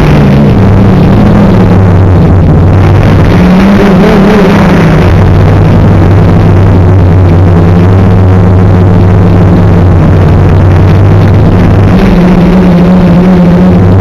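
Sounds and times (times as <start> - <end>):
drone motors and propellers: 0.0 - 14.0
wind noise: 0.0 - 14.0.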